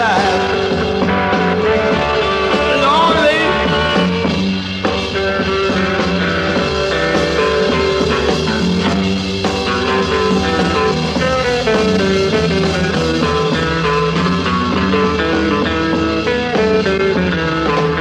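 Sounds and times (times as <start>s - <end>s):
guitar: 0.0s - 18.0s
rock band playing: 0.0s - 18.0s.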